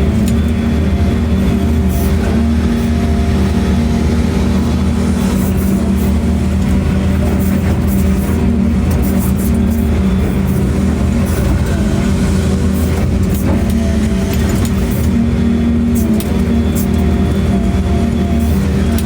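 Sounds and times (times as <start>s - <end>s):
large engine running steadily: 0.0s - 19.0s.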